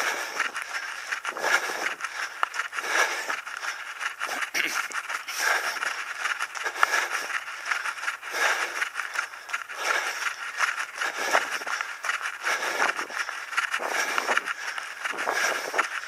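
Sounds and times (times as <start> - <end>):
running footsteps on gravel: 0.0 - 16.0.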